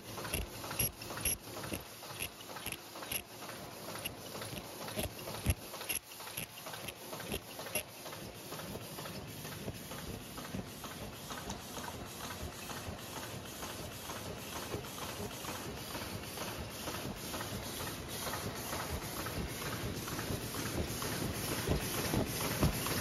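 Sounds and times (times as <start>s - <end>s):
rhythmic machine clatter: 0.0s - 23.0s.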